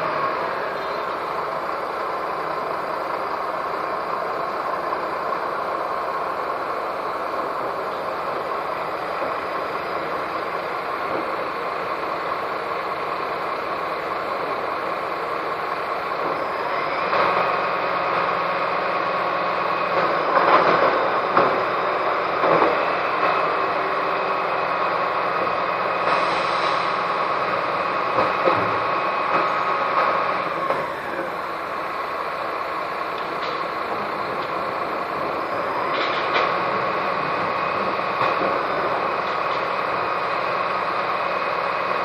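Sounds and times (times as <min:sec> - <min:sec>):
bin lorry engine whining: 0:00.0 - 0:42.0.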